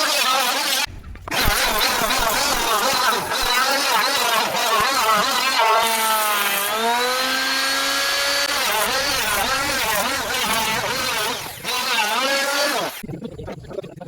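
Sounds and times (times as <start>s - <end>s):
power tool motor on wood: 0.0s - 13.0s.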